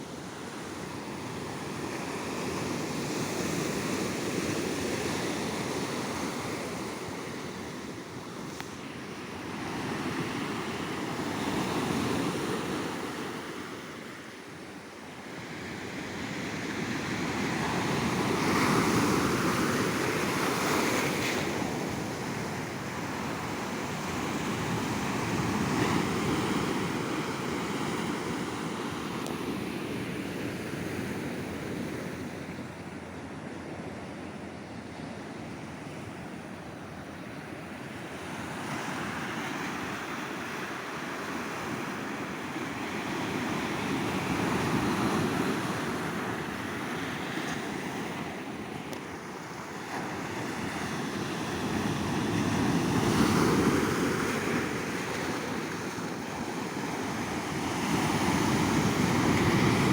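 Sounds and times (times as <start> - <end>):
sea waves breaking on shore: 0.0 - 33.1, 35.4 - 59.9.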